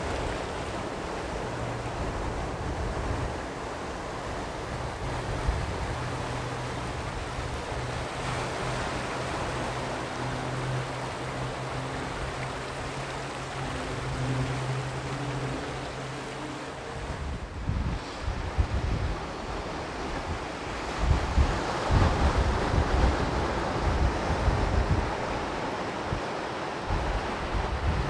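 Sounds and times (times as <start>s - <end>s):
sea waves washing onto shore: 0.0s - 28.0s.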